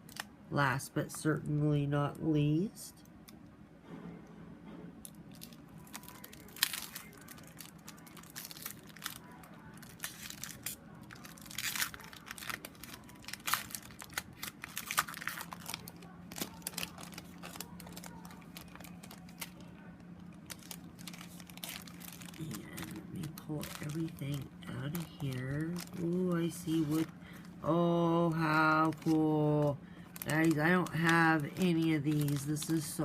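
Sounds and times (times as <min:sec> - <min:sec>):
plastic packaging crinkling: 0:05.0 - 0:33.0.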